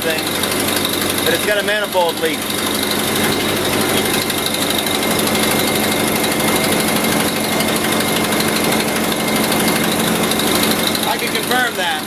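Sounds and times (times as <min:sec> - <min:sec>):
motorhome engine running: 0:00.0 - 0:12.0.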